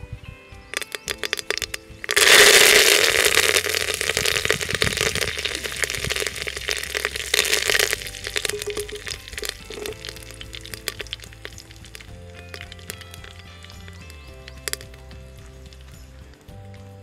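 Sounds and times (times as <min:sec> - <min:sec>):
hot oil sizzling and crackling: 0:00.6 - 0:16.6.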